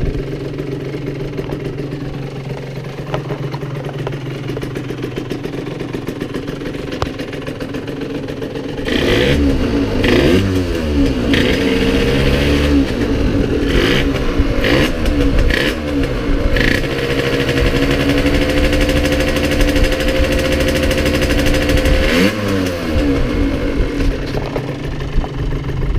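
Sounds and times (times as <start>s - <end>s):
two-stroke motorcycle engine revving: 0.0s - 25.9s.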